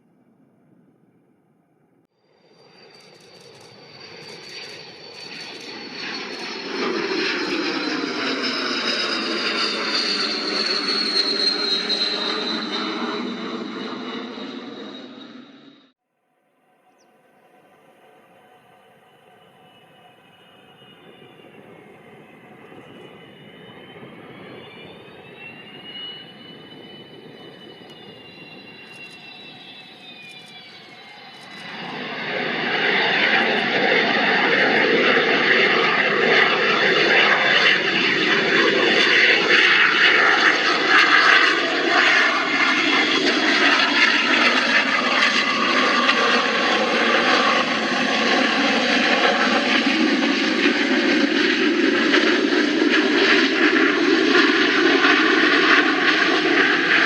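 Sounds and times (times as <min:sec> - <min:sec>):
jet engine whine: 0:00.0 - 0:16.0, 0:16.6 - 0:57.0
loud jet roar: 0:02.4 - 0:15.9, 0:18.0 - 0:57.0.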